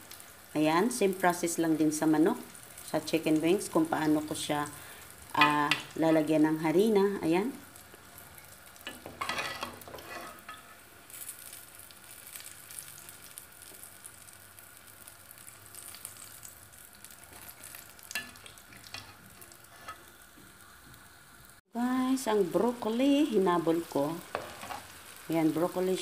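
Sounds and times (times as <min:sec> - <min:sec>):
oil sizzling and crackling: 0:00.0 - 0:26.0.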